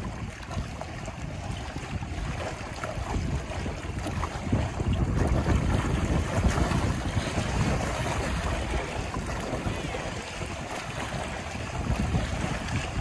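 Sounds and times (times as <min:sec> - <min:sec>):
water lapping against rocks: 0:00.0 - 0:13.0
wind buffeting microphone: 0:00.0 - 0:13.0.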